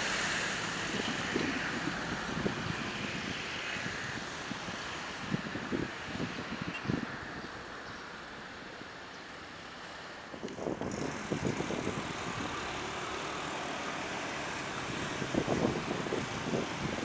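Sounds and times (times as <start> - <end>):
wind buffeting microphone: 0.0 - 7.6, 10.3 - 17.0
jet airliner engines: 0.0 - 17.0.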